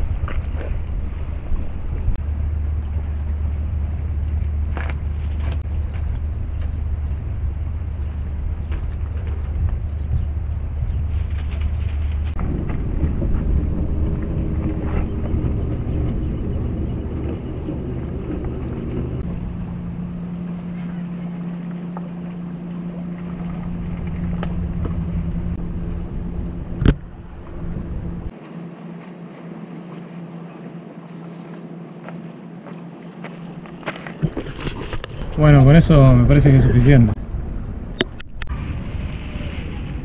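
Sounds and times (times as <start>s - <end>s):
wind rumble on microphone: 0.0s - 28.4s, 34.2s - 40.0s
boat engine droning: 0.0s - 40.0s.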